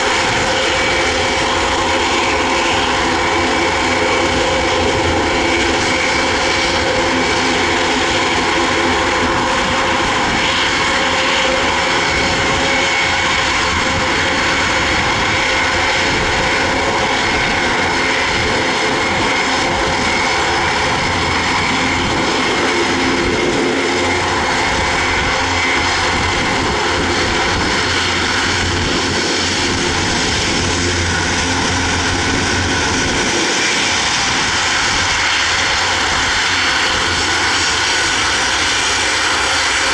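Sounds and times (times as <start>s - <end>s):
high engine whine: 0.0s - 39.9s
propeller drone: 0.0s - 39.9s.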